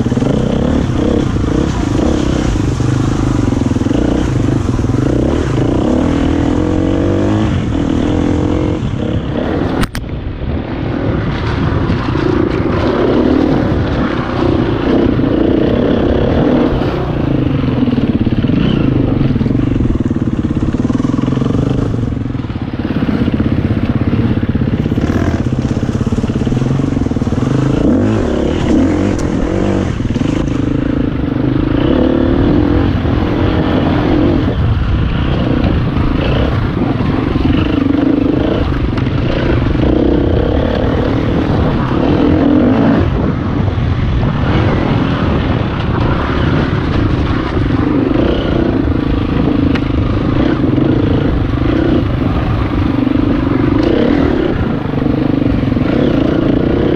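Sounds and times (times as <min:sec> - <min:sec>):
dirt bike engine revving: 0:00.0 - 0:09.9, 0:10.8 - 0:56.9.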